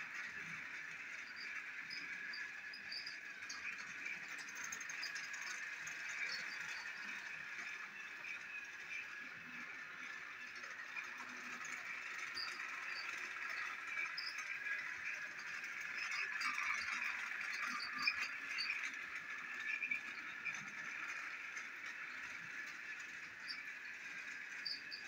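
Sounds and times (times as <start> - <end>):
toy train motor whir: 0.0 - 25.0
toy train wheels clicking: 0.0 - 25.0.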